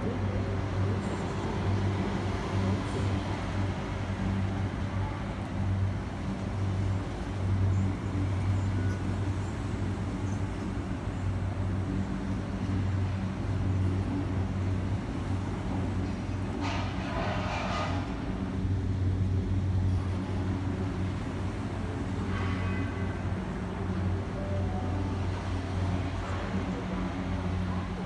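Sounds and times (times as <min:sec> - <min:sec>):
electric trains humming: 0:00.0 - 0:28.0.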